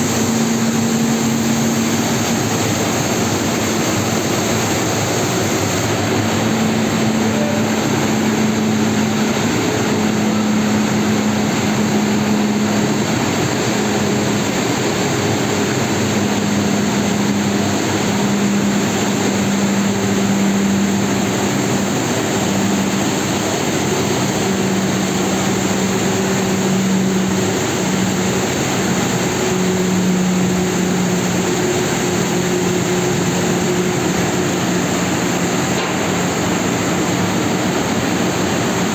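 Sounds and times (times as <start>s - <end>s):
fans and blowers rushing air: 0.0s - 38.9s
machine hum: 0.0s - 38.9s.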